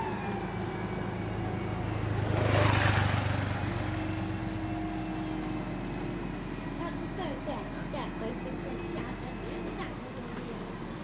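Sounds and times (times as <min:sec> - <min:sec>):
low engine hum: 0:00.0 - 0:11.0
vehicle passing on road: 0:00.0 - 0:11.0.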